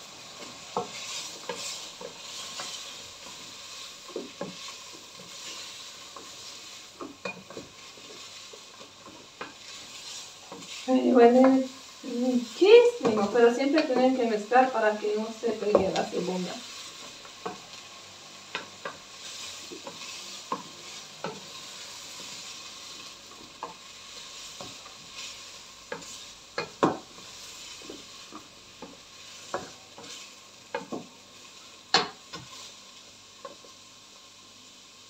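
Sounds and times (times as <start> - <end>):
meat and onions sizzling in a pot: 0.0 - 35.0
wooden spoon knocking and scraping pot: 0.7 - 14.5, 15.4 - 16.5, 18.5 - 31.1, 31.9 - 32.6.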